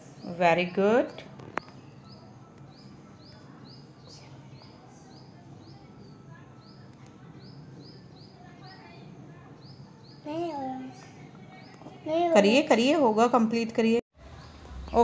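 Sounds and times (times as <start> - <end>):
bird chirping: 0.0 - 13.4.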